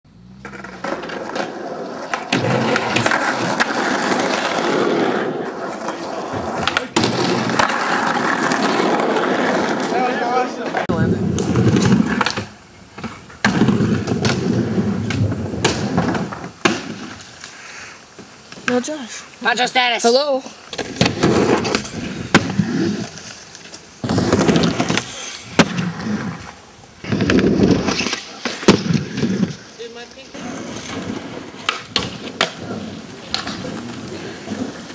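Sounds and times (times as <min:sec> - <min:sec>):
skateboard wheels rolling on asphalt: 0:00.1 - 0:34.9
skateboard clacking on ground: 0:00.3 - 0:17.6, 0:20.7 - 0:34.9.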